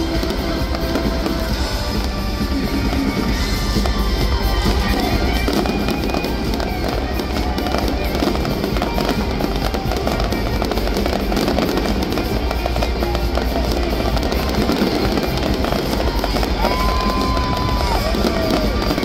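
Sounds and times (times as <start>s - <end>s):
fireworks bursting and crackling: 0.0s - 19.0s
loud music: 0.0s - 19.0s.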